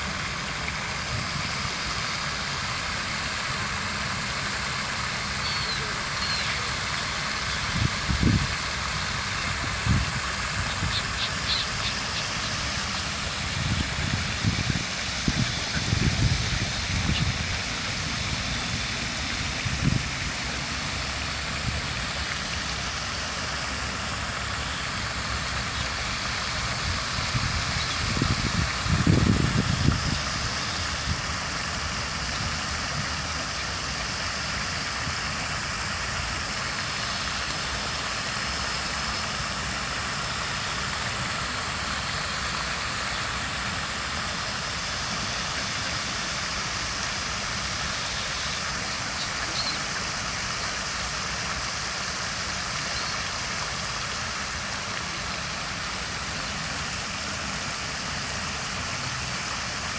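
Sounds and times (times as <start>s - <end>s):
fountains spraying and splashing water: 0.0s - 59.9s.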